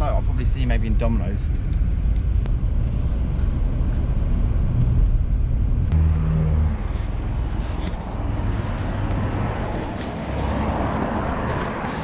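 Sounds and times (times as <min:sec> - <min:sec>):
car engine and road rumble: 0:00.0 - 0:12.0
engine hum: 0:00.0 - 0:12.0.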